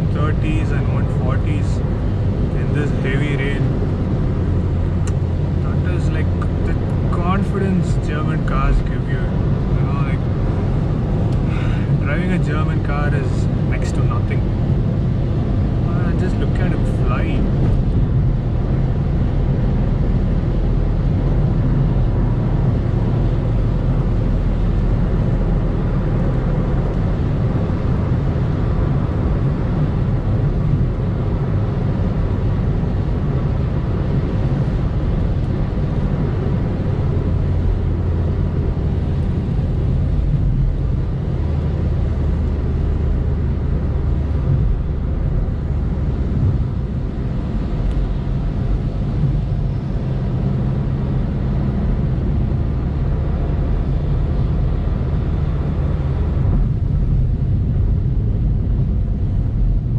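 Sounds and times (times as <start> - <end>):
car engine rumble: 0.0 - 59.9
road noise inside car: 0.0 - 59.9.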